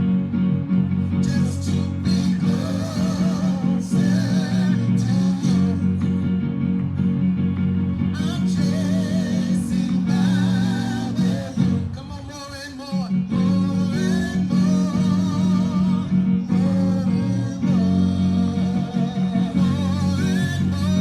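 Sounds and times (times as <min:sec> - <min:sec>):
bass guitar: 0:00.0 - 0:12.1, 0:13.1 - 0:21.0
electric guitar: 0:00.0 - 0:21.0
person singing: 0:01.2 - 0:06.4, 0:08.2 - 0:21.0.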